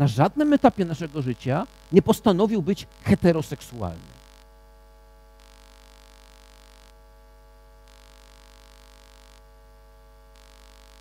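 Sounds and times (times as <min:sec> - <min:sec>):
electrical mains hum: 0:00.0 - 0:11.0
faint static hiss: 0:00.0 - 0:11.0.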